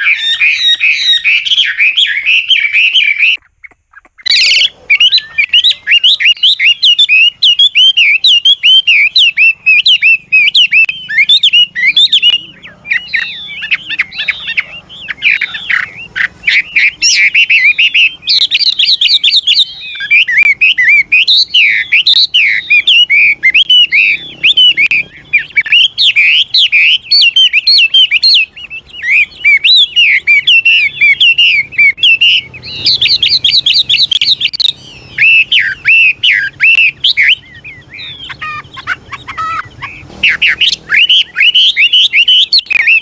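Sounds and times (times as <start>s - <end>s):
bird singing whistled notes: 0.0s - 43.0s.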